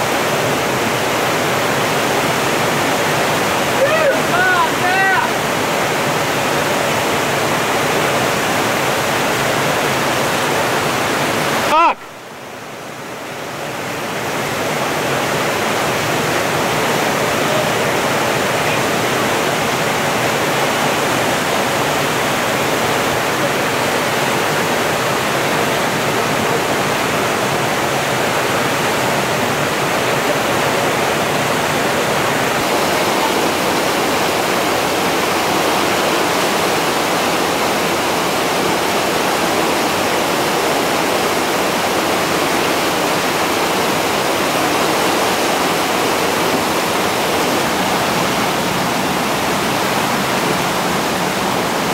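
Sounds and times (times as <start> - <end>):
whitewater rapids roaring: 0.0 - 51.9.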